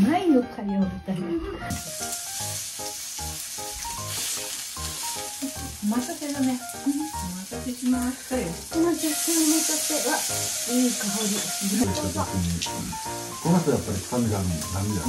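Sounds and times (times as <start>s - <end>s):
meat sizzling on a grill: 1.7s - 15.0s.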